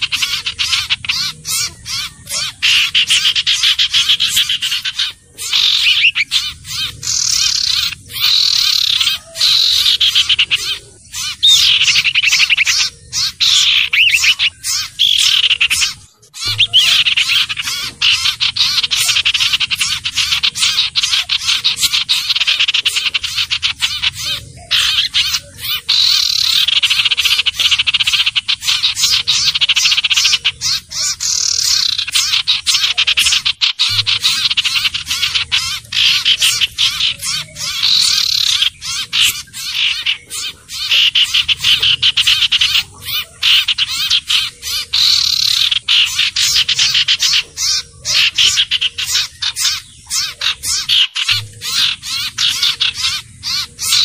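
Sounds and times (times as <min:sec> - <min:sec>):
bird chattering and trilling: 0:00.0 - 0:54.0.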